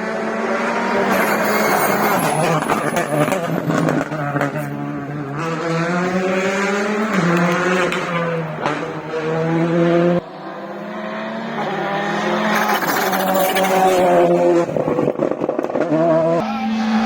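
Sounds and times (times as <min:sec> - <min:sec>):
car engine accelerating through gears: 0:00.0 - 0:17.0.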